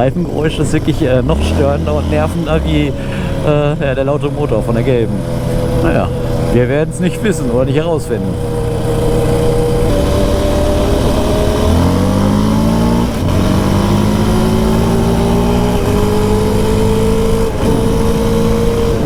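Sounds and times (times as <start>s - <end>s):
quad engine accelerating: 0.0s - 19.0s
tyres humming on asphalt: 0.0s - 19.0s.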